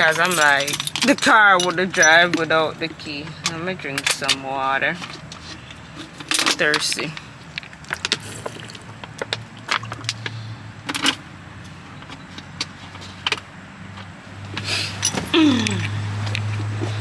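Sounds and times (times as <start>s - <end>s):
car engine starting and idling: 0.0s - 17.0s
handling clicks and rustles: 0.0s - 17.0s.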